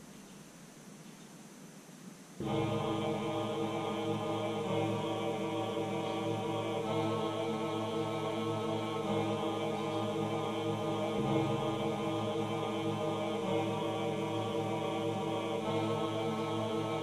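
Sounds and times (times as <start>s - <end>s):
faint room hiss: 0.0s - 17.0s
droning chant-like music: 2.4s - 17.0s.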